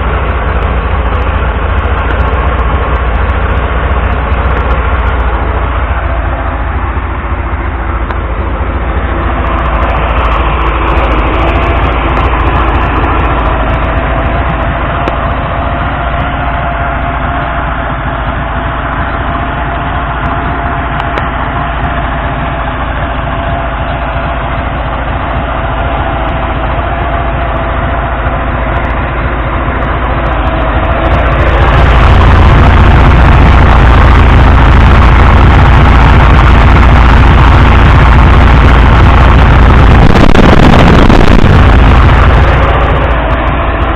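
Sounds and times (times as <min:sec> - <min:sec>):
car engine running: 0:00.0 - 0:43.9
faint steady whine: 0:00.0 - 0:43.9.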